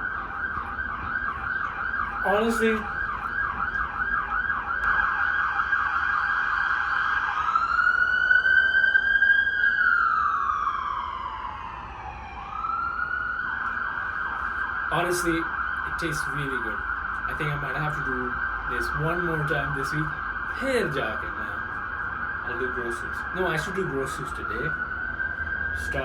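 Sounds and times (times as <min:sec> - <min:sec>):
emergency siren yelping and wailing: 0:00.0 - 0:26.0.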